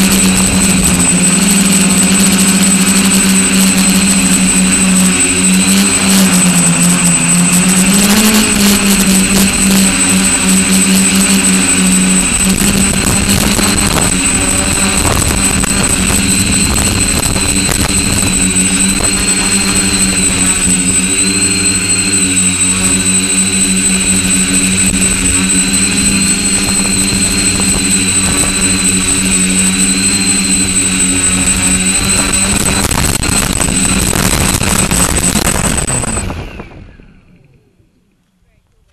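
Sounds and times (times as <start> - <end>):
drone propellers buzzing: 0.0 - 38.1
thin high whine: 0.0 - 38.1.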